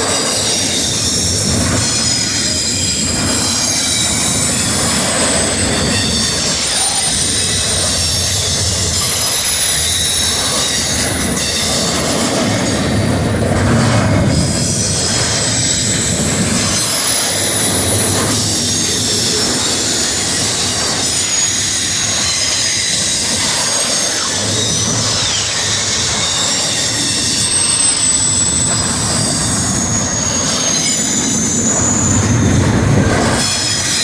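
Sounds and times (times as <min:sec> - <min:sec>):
freight train rumbling: 0:00.0 - 0:34.0
train wheels squealing: 0:00.0 - 0:34.0.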